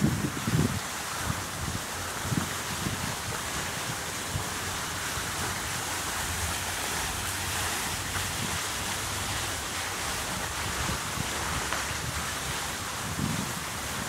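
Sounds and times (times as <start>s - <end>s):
background hiss: 0.0s - 14.0s
wind buffeting microphone: 0.0s - 14.0s.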